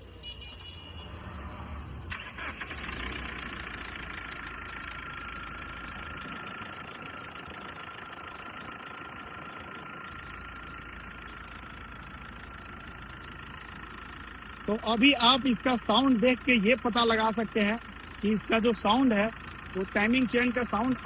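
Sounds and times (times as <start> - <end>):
diesel engine starting and idling: 0.0 - 21.0.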